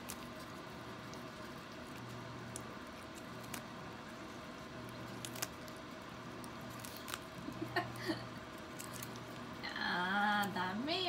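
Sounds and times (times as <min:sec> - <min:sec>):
cat chewing lettuce: 0:00.0 - 0:09.8
low room hum: 0:00.0 - 0:11.0.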